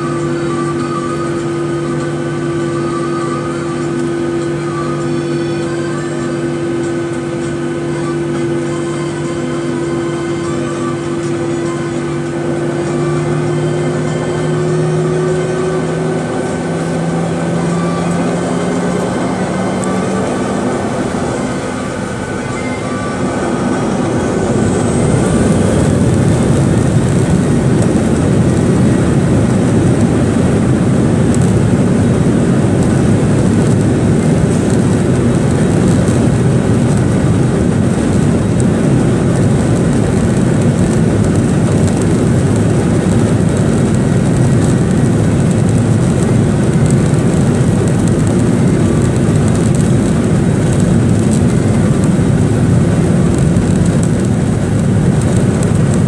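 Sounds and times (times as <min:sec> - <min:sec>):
continuous rumble in cabin: 0:00.0 - 0:56.0
jet engines whining: 0:00.0 - 0:56.0.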